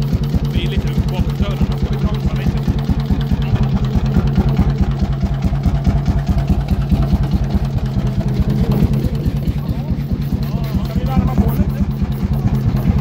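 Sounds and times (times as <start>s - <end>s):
crude oil engine running: 0.0s - 13.0s.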